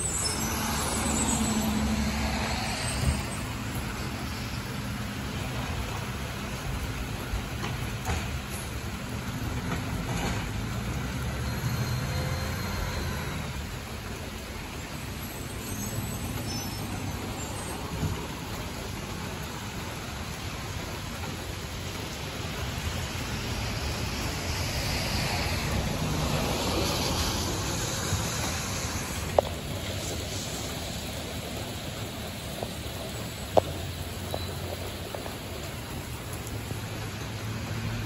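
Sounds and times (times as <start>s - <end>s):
hiss of wet road and rain: 0.0s - 38.0s.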